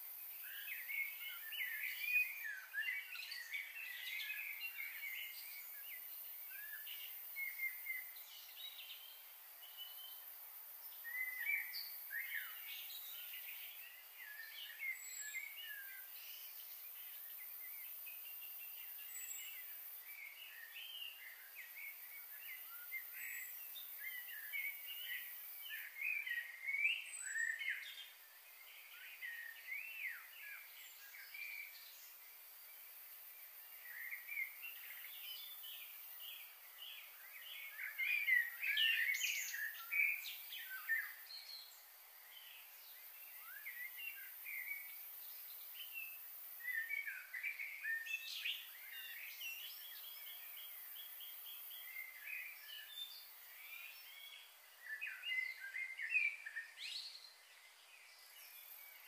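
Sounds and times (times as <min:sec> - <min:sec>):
faint high hiss: 0:00.0 - 0:59.0
small birds chirping: 0:00.0 - 0:59.0.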